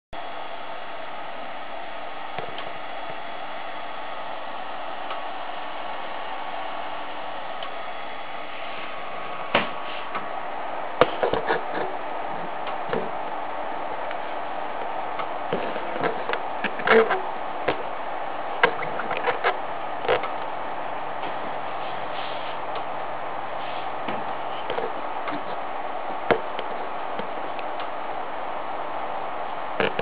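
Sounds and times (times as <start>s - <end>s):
computer fan whirring: 0.1s - 30.0s
faint steady tones: 0.2s - 30.0s.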